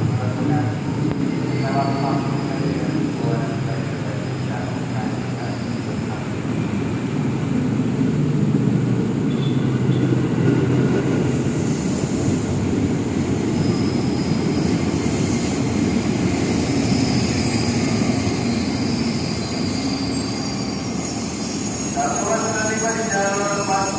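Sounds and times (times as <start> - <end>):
train rumbling on rails: 0.0 - 23.9.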